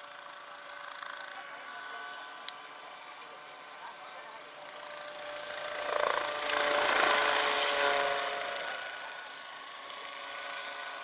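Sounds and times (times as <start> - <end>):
model helicopter whining buzz: 0.0 - 11.0.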